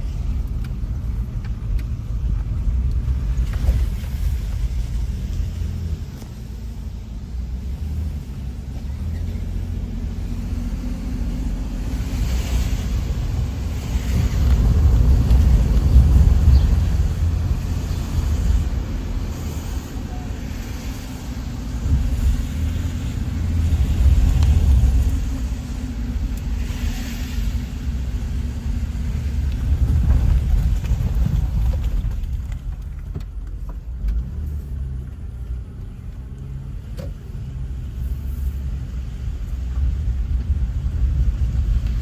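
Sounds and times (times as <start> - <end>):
low steady rumble: 0.0 - 42.0.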